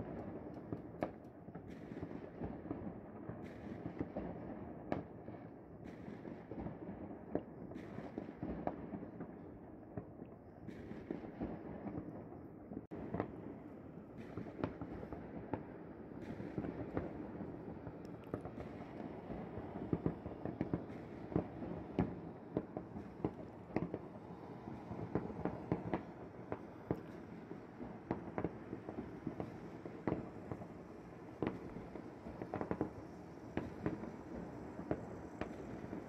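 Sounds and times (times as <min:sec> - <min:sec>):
sharp firework pops: 0:00.0 - 0:05.1, 0:05.8 - 0:09.4, 0:10.0 - 0:12.1, 0:14.2 - 0:24.2, 0:24.8 - 0:30.7, 0:31.4 - 0:33.0, 0:33.6 - 0:36.0
distant fireworks rumble: 0:00.0 - 0:36.0.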